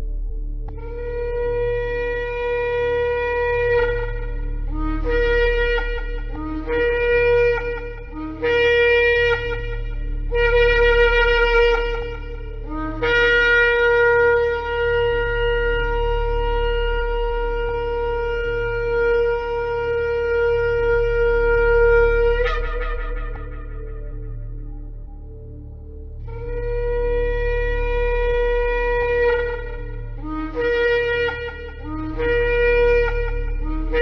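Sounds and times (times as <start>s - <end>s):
low drone: 0.0s - 34.0s
ram's horn blasts: 0.0s - 34.0s.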